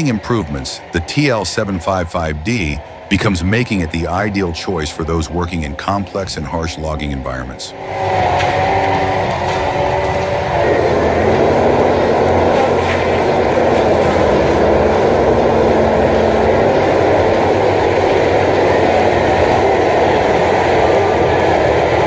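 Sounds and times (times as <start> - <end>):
faint steady hum: 0.0 - 22.0
heavy machine running: 0.0 - 22.0.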